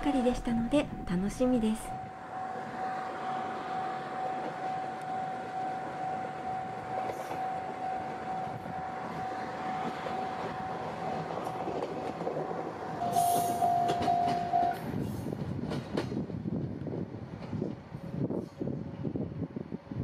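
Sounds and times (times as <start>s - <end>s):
railcar rumbling past: 0.0s - 20.0s.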